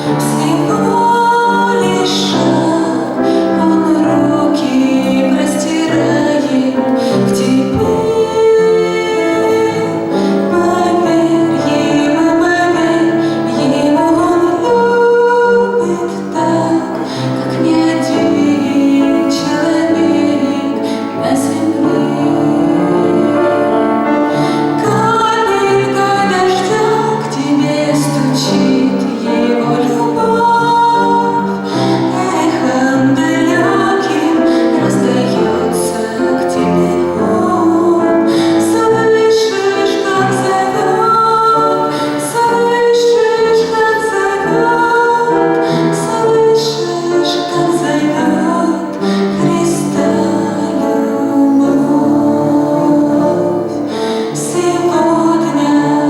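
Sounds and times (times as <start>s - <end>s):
instrumental accompaniment: 0.0s - 56.0s
woman singing: 0.0s - 56.0s.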